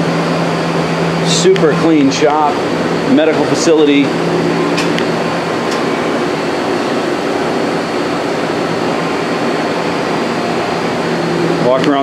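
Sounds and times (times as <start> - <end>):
low hum: 0.4 - 11.9.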